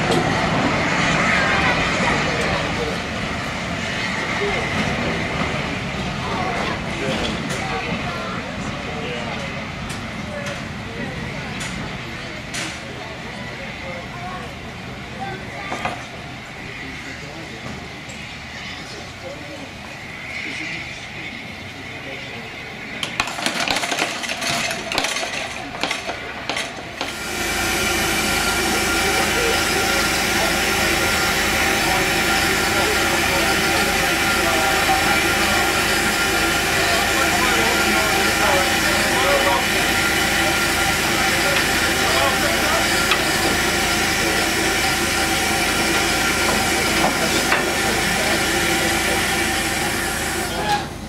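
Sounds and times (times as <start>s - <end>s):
locomotive steam hissing: 0.0s - 51.0s.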